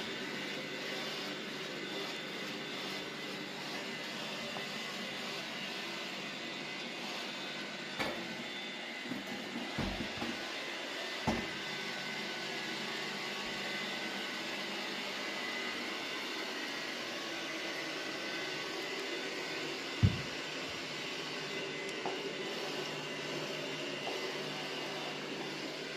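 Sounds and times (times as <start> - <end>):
robot vacuum whirring: 0.0 - 25.9.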